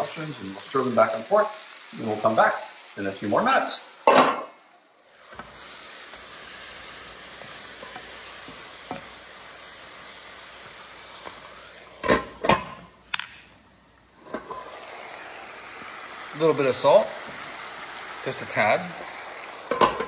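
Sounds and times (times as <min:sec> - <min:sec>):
mushrooms and onions sizzling: 0:00.0 - 0:20.0.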